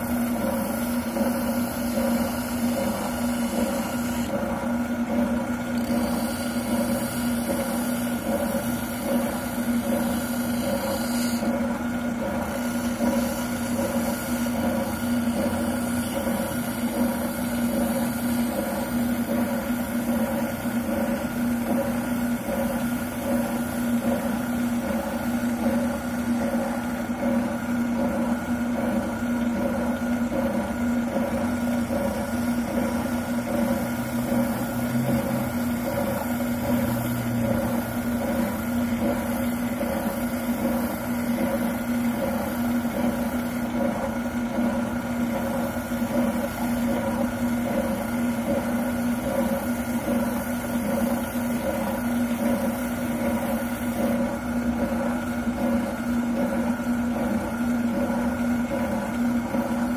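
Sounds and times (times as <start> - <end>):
oscillating sander motor hum: 0.0 - 59.9.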